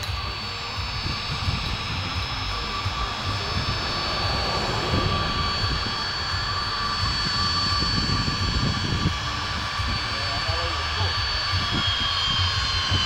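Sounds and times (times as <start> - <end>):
jet engines whining: 0.0 - 13.0
low engine rumble: 0.0 - 13.0.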